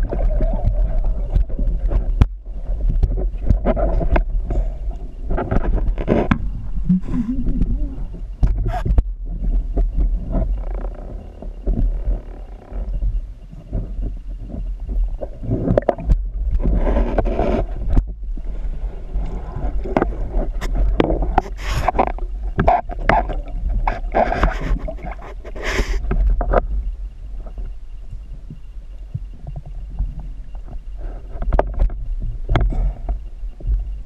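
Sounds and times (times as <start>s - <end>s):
knocks and scrapes underwater: 0.0s - 34.0s
low underwater rumble: 0.0s - 34.0s.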